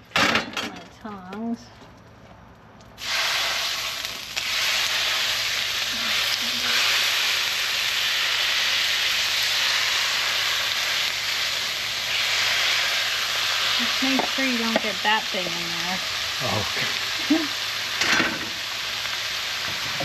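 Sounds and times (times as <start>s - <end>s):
meat sizzling on griddle: 3.0s - 20.0s.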